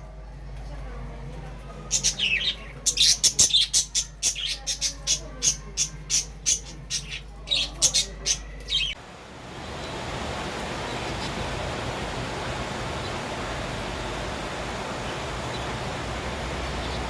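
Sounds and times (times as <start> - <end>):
small birds chirping: 1.8 - 9.0, 9.6 - 17.0.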